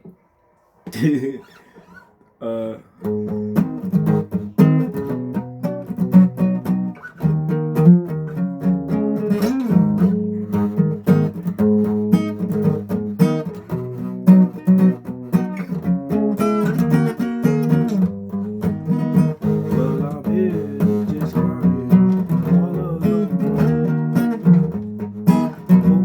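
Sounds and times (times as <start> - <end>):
acoustic guitar playing: 3.0 - 26.0.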